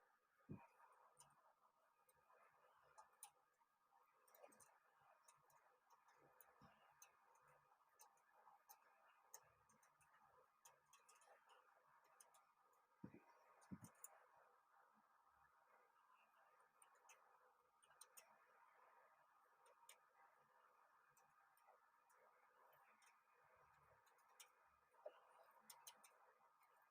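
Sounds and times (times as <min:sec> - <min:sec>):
faint steady hum: 0:00.0 - 0:26.9
faint ticks and clicks: 0:00.0 - 0:26.9.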